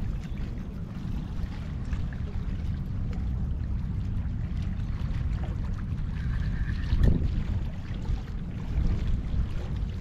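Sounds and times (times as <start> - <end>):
water sloshing and splashing: 0.0 - 10.0
wind rumbling on microphone: 0.0 - 10.0.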